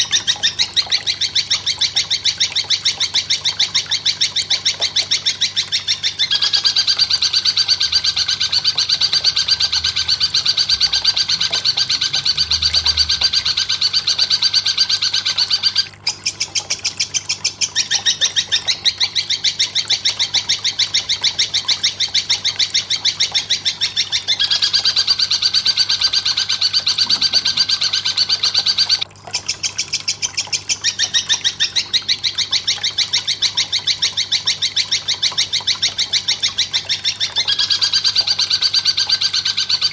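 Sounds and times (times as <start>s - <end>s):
rapid high bird chirps: 0.0s - 29.0s, 29.6s - 39.9s.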